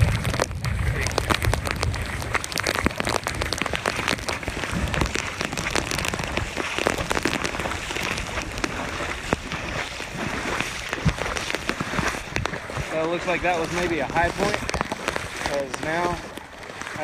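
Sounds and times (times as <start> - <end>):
raindrops ticking: 0.0 - 17.0
wind rumble on microphone: 0.0 - 17.0.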